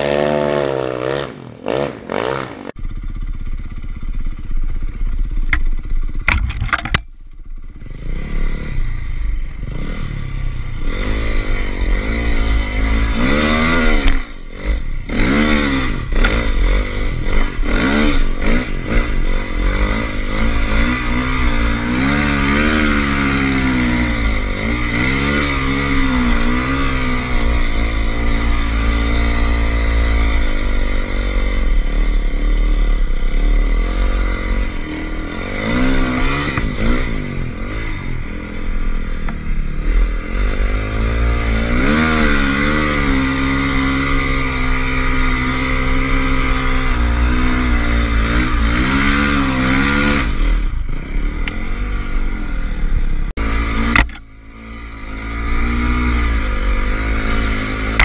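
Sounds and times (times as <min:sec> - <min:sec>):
snowbike engine revving: 0:00.0 - 0:06.4, 0:07.5 - 0:58.0.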